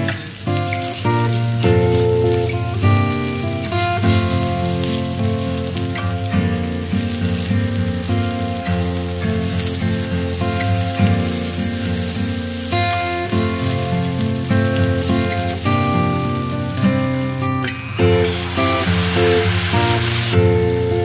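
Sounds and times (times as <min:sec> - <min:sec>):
instrumental background music: 0:00.0 - 0:21.0
onions sizzling in oil: 0:00.0 - 0:21.0.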